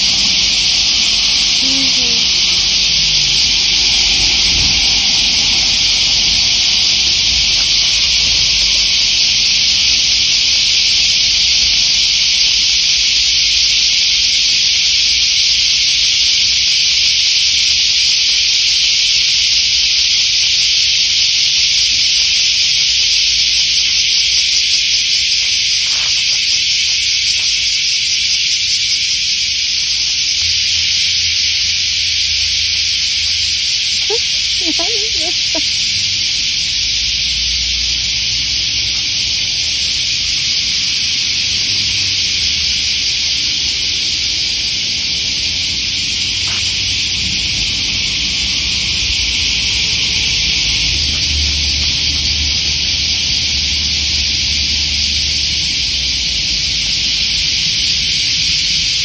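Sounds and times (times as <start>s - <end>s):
cicadas chorus: 0.0s - 59.0s.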